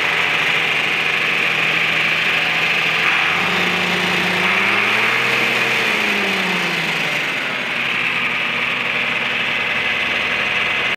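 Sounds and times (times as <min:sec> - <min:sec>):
diesel tractor engine idling: 0:00.0 - 0:10.9.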